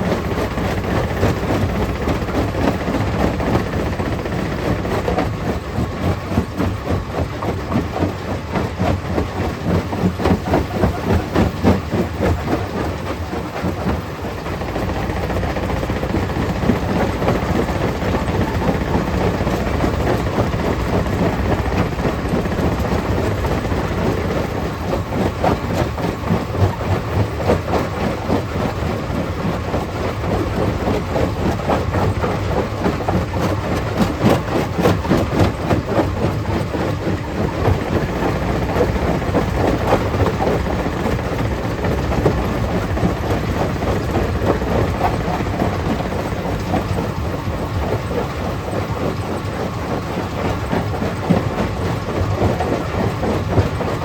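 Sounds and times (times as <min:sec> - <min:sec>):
machine rumble: 0:00.0 - 0:54.0.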